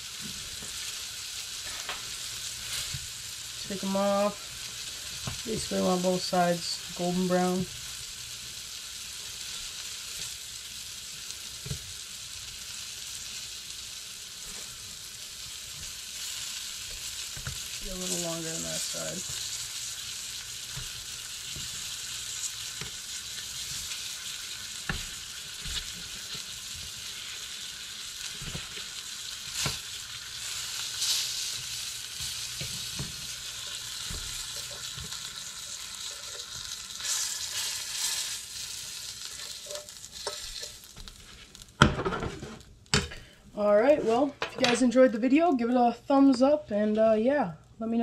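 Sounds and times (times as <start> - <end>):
fish sizzling in a skillet: 0.0 - 43.2.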